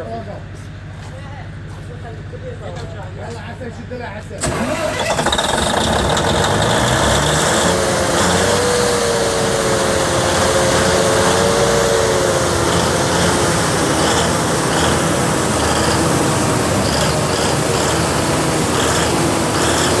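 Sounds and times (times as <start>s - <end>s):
diesel generator engine running: 0.0s - 20.0s.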